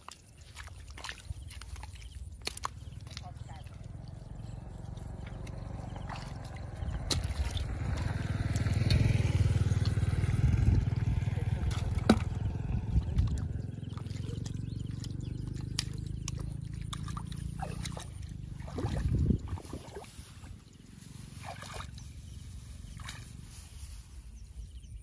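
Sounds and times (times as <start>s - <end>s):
muddy water sloshing: 0.0s - 24.6s
low rumble: 2.6s - 25.0s.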